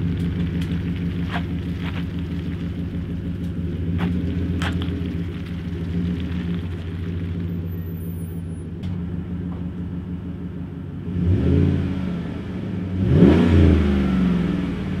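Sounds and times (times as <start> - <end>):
pickup engine idling and revving: 0.0 - 15.0.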